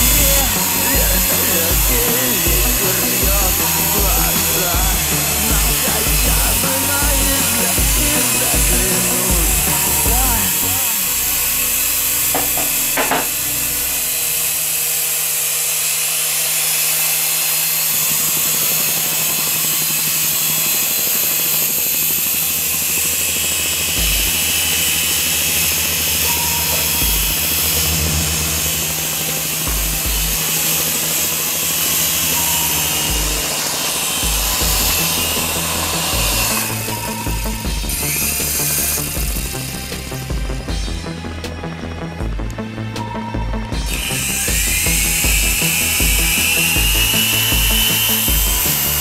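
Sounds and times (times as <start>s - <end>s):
toy helicopter rotors whirring: 0.0s - 40.6s, 43.7s - 49.0s.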